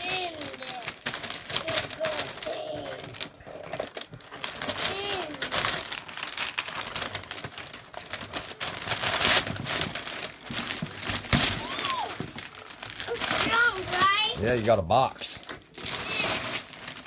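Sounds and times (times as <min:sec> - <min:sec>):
tissue paper and gift bag crinkling: 0:00.0 - 0:17.0.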